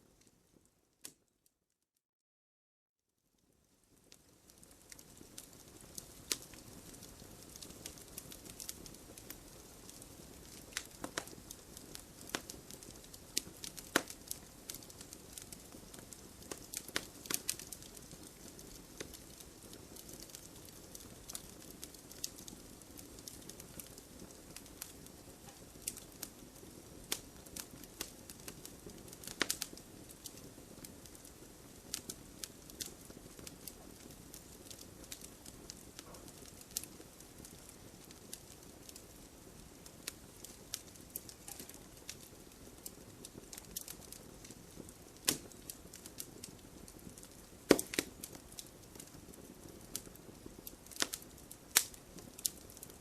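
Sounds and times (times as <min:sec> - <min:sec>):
wood fire crackling and popping: 0:03.4 - 0:53.0.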